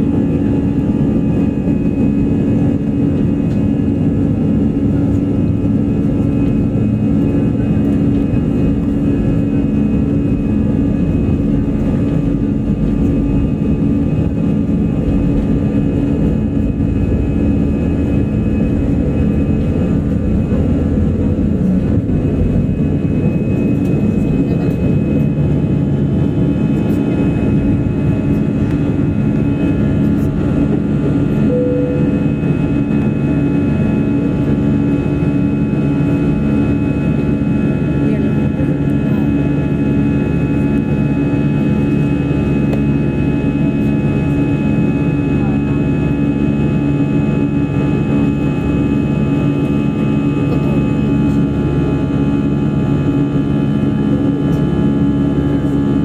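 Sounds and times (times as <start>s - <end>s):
jet engines at takeoff thrust: 0.0s - 56.0s.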